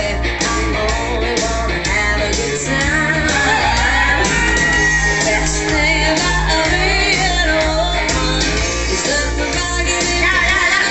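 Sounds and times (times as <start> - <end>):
dance song over loudspeakers: 0.0 - 10.9.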